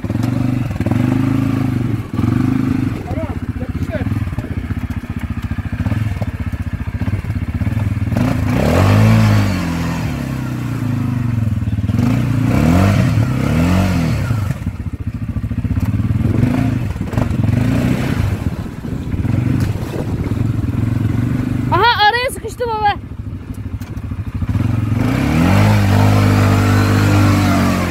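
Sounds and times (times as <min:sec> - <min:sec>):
atv engine idling and revving: 0:00.0 - 0:27.9.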